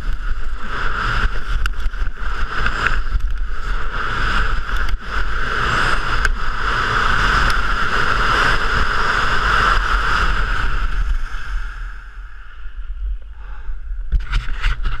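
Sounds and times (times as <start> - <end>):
skis sliding on hard snow: 0.0 - 12.0, 14.2 - 15.0
wind rushing over camera: 0.0 - 15.0.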